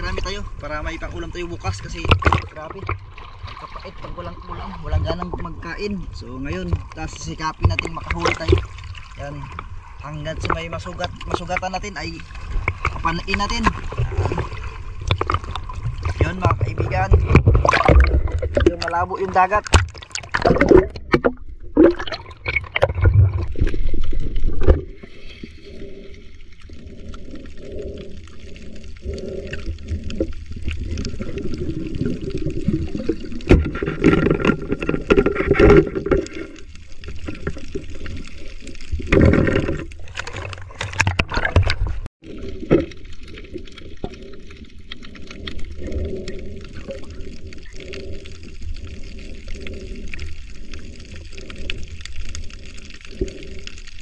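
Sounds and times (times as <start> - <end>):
muffled underwater seawater gurgling: 0.0 - 54.0
soft underwater pulses: 0.0 - 54.0
surges of water noise: 0.0 - 54.0.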